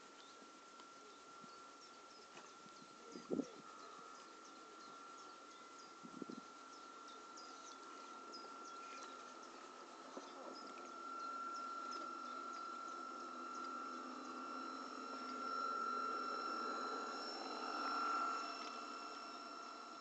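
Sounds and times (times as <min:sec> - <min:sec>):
model ship motor whine: 0:00.0 - 0:20.0
bird chirps: 0:01.1 - 0:20.0.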